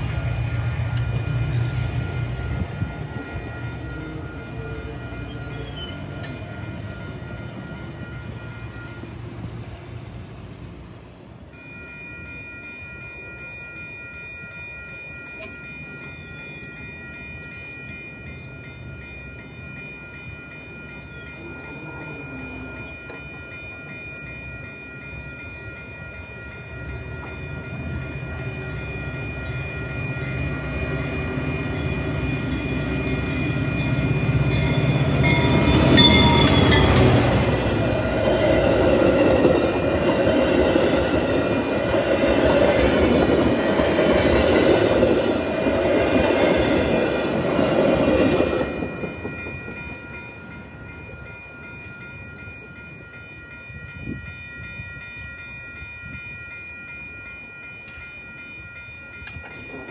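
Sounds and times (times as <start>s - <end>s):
crossing signal bells ringing: 0.0s - 59.9s
train rumbling on tracks: 0.0s - 59.9s.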